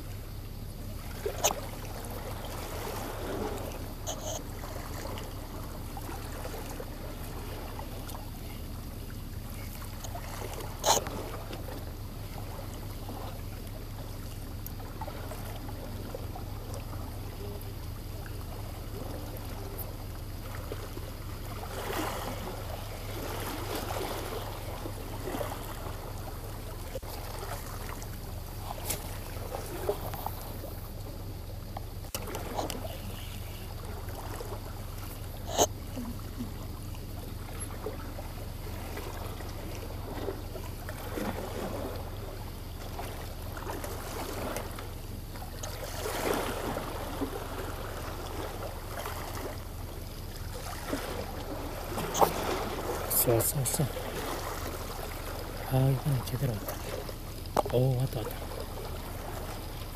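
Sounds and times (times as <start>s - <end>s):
low steady hum: 0.0s - 59.9s
sea water lapping against rocks: 0.0s - 59.9s.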